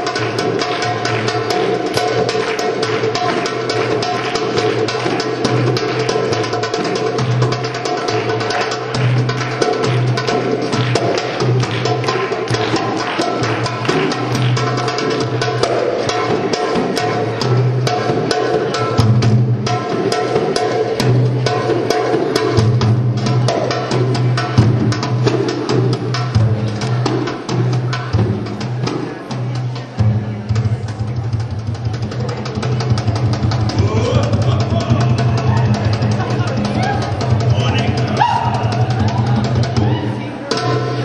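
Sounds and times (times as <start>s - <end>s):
hand-drum strokes: 0.0s - 41.0s.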